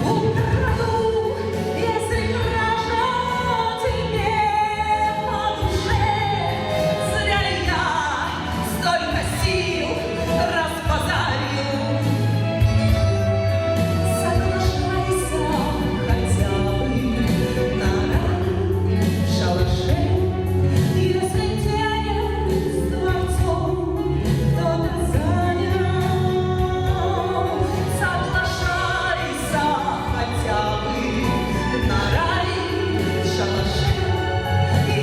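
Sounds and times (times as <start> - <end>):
instrumental accompaniment: 0.0 - 35.0
woman singing slow song: 0.0 - 35.0.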